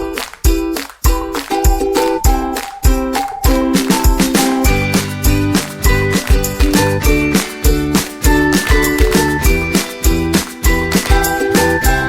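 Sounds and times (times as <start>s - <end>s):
kick drum beat: 0.0s - 12.0s
plucked and struck melody: 0.0s - 12.0s.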